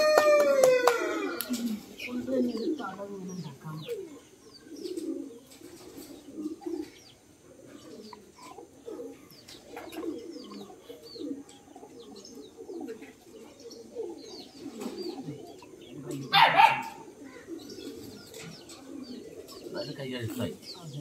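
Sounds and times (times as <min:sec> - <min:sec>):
doves cooing: 0:00.0 - 0:21.0
small birds chirping: 0:00.6 - 0:21.0.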